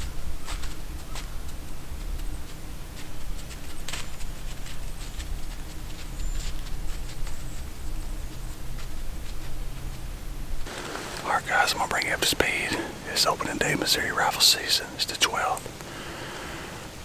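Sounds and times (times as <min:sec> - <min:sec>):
footsteps crunching in snow: 0:00.0 - 0:14.0
steady low rumble: 0:00.0 - 0:17.0.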